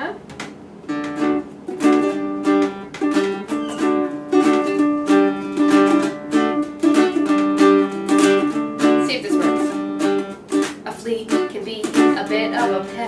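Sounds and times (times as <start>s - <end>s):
ukulele strumming chords: 0.3s - 13.0s.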